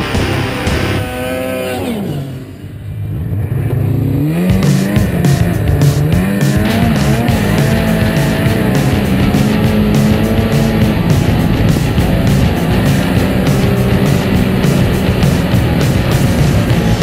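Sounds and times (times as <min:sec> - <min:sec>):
snowmobile engine revving: 0:00.0 - 0:17.0
snowmobile passing by: 0:00.0 - 0:17.0.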